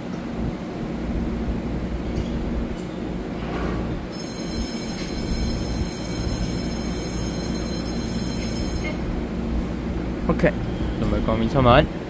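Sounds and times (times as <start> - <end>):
electric train equipment humming: 0.0 - 12.0.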